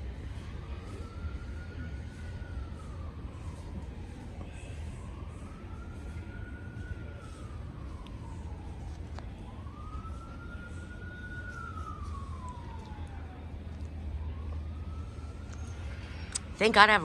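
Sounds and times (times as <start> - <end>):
distant siren wailing: 0.0 - 17.0.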